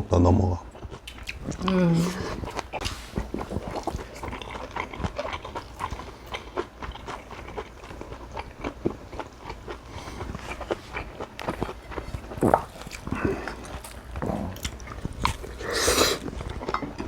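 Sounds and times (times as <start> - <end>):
person chewing food: 0.6 - 17.0.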